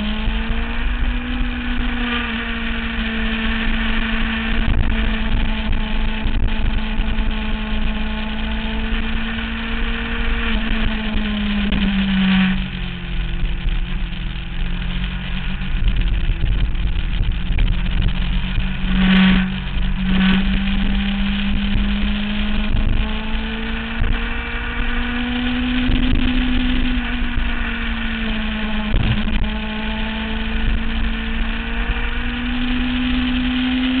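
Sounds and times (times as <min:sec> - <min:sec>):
motorcycle engine running hard: 0:00.0 - 0:34.0
wind rumbling on microphone: 0:00.0 - 0:34.0.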